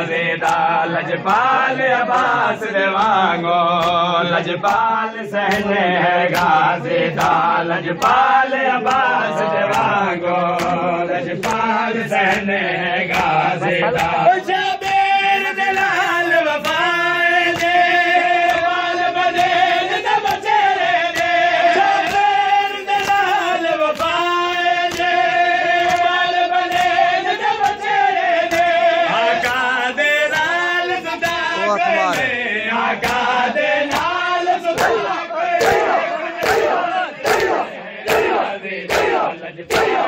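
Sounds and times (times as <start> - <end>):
men chanting in held notes: 0.0 - 40.0
hands slapping on chests: 0.4 - 0.7, 2.1 - 2.4, 3.8 - 4.0, 4.6 - 12.5, 13.1 - 15.2, 16.6 - 16.9, 17.5 - 29.7, 30.3 - 32.4, 33.0 - 40.0.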